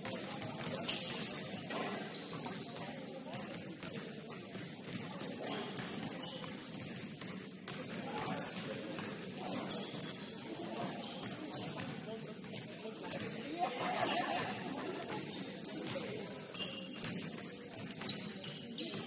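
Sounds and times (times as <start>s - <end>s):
sneaker squeaks on court: 0.0s - 19.0s.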